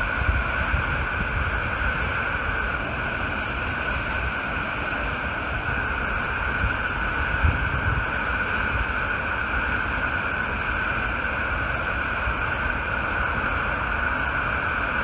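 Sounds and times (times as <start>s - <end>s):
water gushing from dam outlet: 0.0s - 15.0s.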